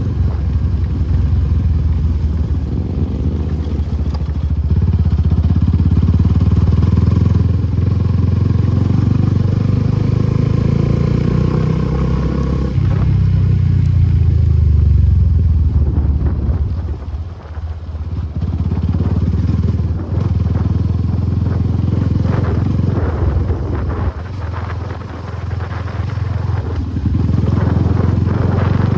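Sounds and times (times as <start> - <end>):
motorcycle engine riding: 0.0 - 28.9.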